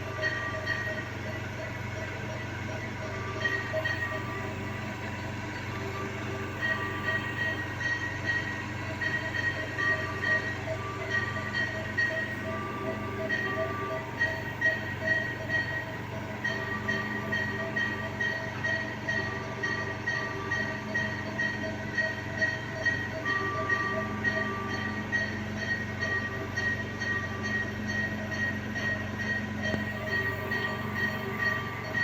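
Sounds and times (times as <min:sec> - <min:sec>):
long monitor tone: 0:00.0 - 0:32.0.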